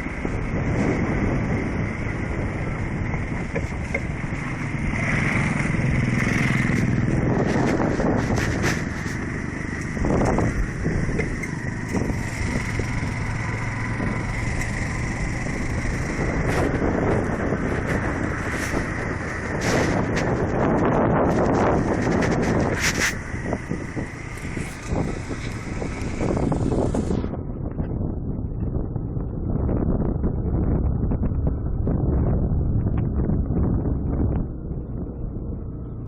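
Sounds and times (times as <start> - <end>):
motorcycle engine running: 0.0 - 36.0
road and wind noise: 0.0 - 36.0.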